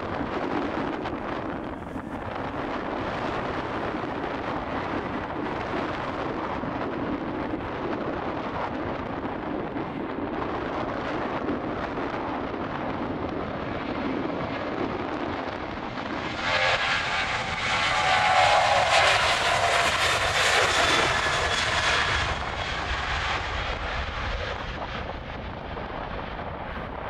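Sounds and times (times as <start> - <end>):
jet engines at take-off thrust: 0.0 - 27.0.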